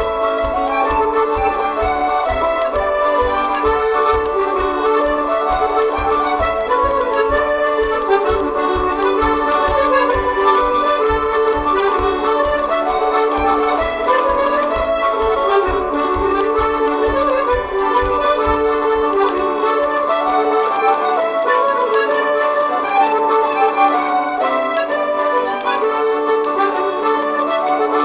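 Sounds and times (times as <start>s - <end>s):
button accordion playing a tune: 0.0s - 28.0s.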